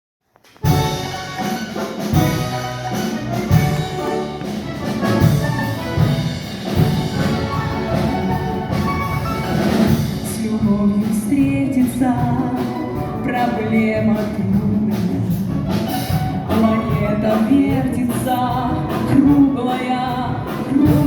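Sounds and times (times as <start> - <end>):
orchestra playing: 0.6 - 21.0
steady drum beat: 0.6 - 21.0.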